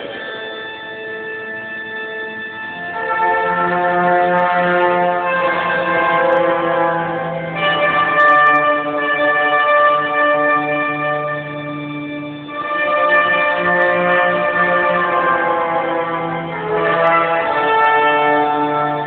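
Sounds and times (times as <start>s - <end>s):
trumpets playing sustained chords: 0.0s - 19.0s.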